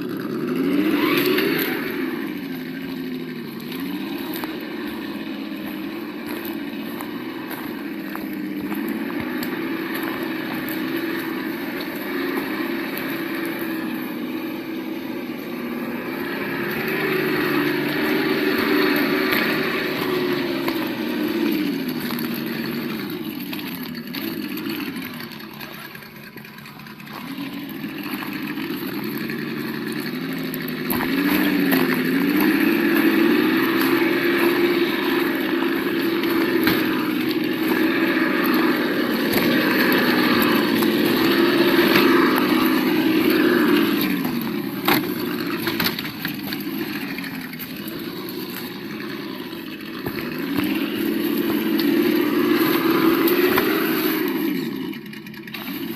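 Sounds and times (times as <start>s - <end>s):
simulated engine from small speaker: 0.0s - 55.9s.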